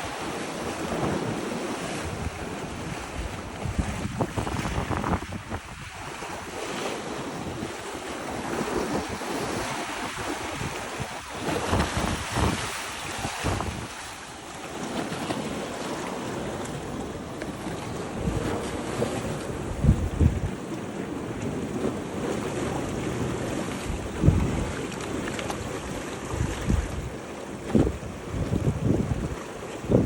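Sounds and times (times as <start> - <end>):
ocean waves washing: 0.0 - 30.0
wind buffeting the microphone: 0.0 - 30.0.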